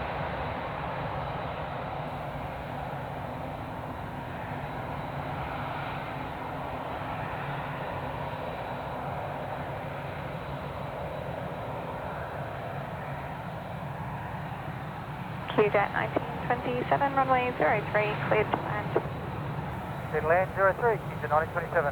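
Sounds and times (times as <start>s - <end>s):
jet engines rumbling: 0.1s - 21.9s.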